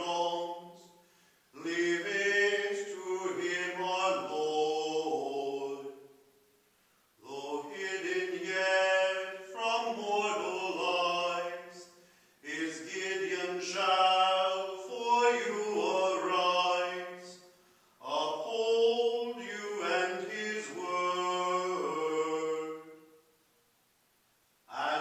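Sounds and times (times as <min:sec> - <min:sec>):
man singing chant: 0:00.0 - 0:01.0, 0:01.6 - 0:06.0, 0:07.2 - 0:23.1, 0:24.7 - 0:25.0.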